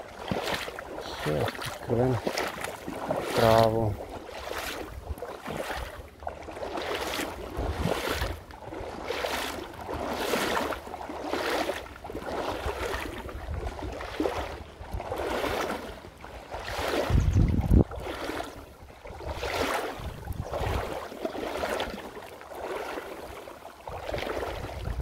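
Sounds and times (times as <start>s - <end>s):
water splashing around wading legs: 0.0s - 25.0s.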